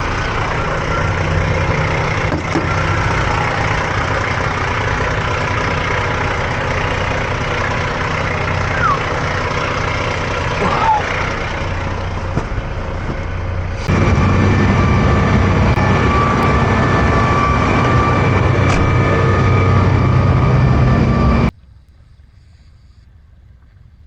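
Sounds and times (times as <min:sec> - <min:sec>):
engine running with a whine: 0:00.0 - 0:21.6.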